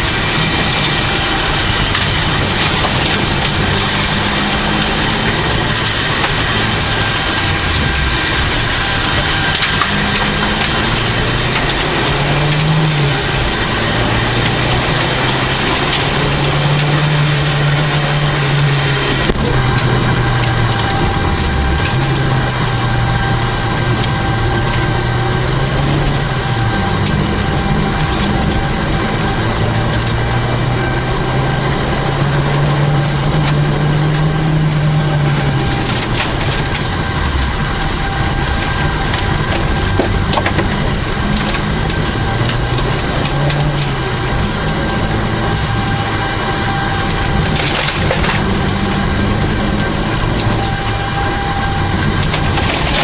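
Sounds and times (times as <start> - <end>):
rally car engine revving: 0.0 - 53.0
tyres on gravel: 0.0 - 53.0.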